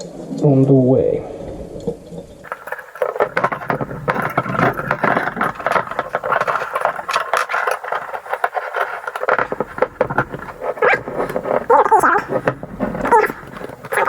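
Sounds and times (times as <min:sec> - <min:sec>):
metal tools rattling and scraping: 0:02.4 - 0:14.0.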